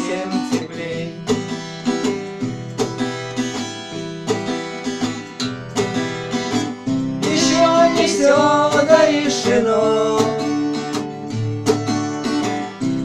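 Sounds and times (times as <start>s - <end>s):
acoustic guitar picking: 0.0s - 13.0s.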